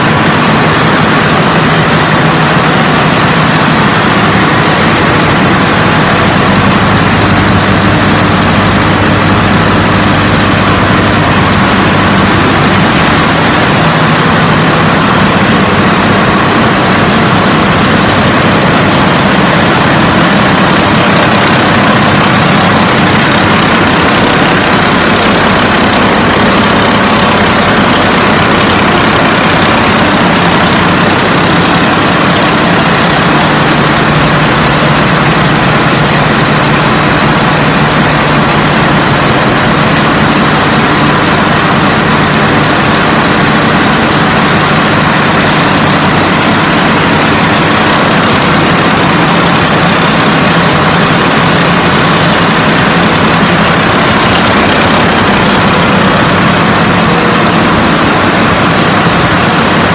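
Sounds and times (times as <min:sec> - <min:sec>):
diesel engines droning: 0:00.0 - 0:59.9.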